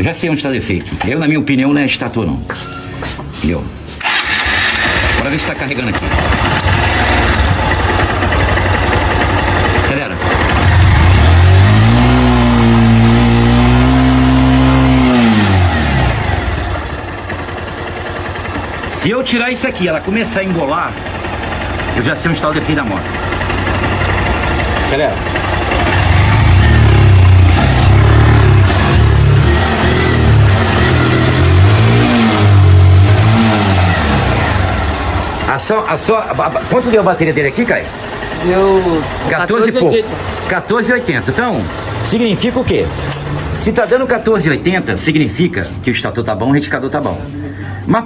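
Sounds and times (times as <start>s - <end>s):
motorcycle engine revving: 4.0s - 44.5s.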